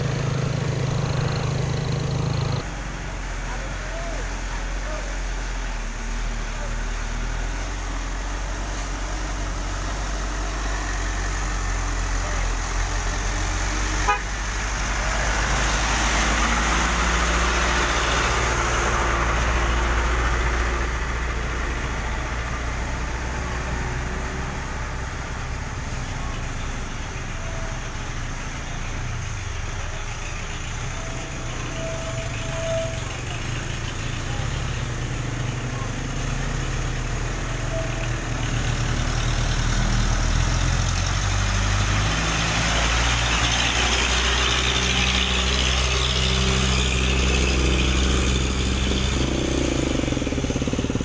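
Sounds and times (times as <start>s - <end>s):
hum of traffic: 0.0s - 51.0s
truck engine running: 0.0s - 51.0s.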